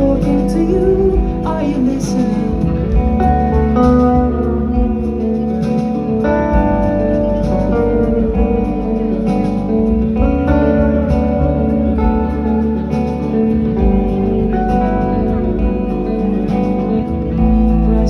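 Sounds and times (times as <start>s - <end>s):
bass and drums beat: 0.0s - 18.0s
strummed guitar: 0.0s - 18.0s.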